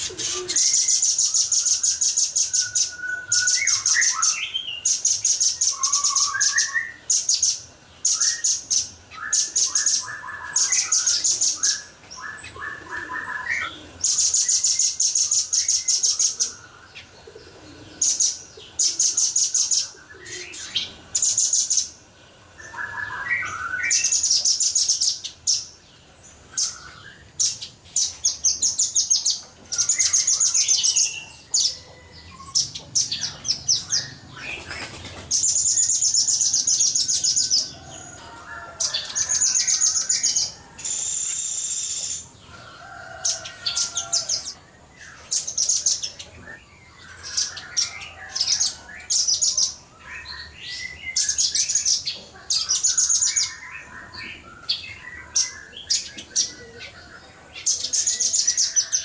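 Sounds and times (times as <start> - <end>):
bird high-pitched trilling song: 0.0 - 17.1, 22.6 - 25.8, 26.6 - 38.2, 38.8 - 42.4, 43.0 - 57.0.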